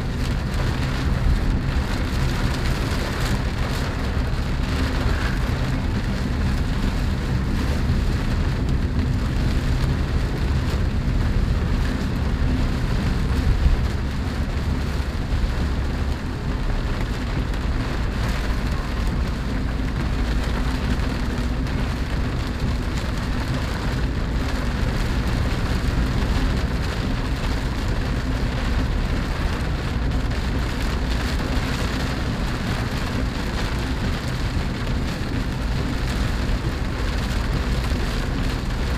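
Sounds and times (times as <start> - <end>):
engine and tyres humming: 0.0 - 38.9
rain on car roof and glass: 0.0 - 38.9.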